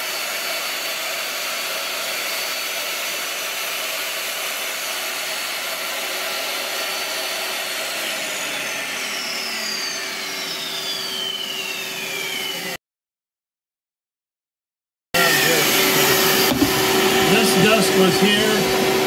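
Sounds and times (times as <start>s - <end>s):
shop vacuum running: 0.0s - 12.8s, 15.2s - 19.0s
table saw cutting: 0.0s - 12.8s, 15.2s - 19.0s.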